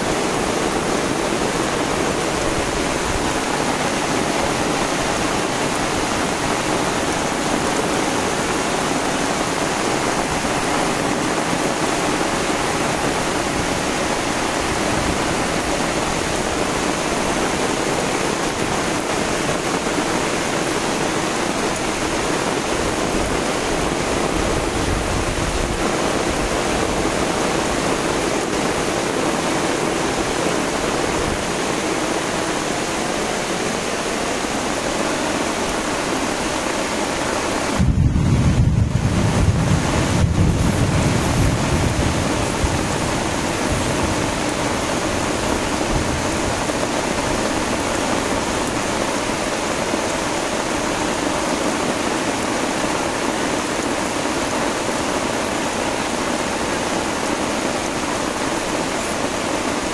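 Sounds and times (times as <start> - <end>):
heavy rain on grass and stone: 0.0 - 59.9.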